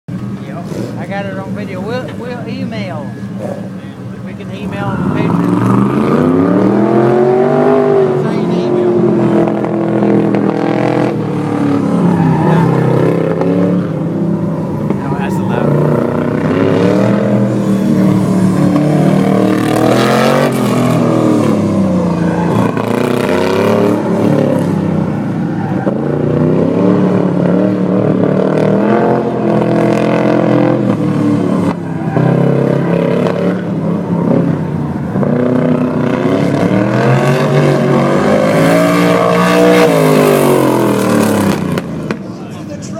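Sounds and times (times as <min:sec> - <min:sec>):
truck engine revving: 0:00.1 - 0:42.9.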